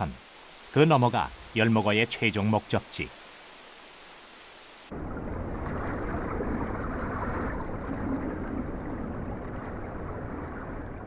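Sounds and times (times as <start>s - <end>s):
stream rushing heard underwater: 0.0s - 11.0s.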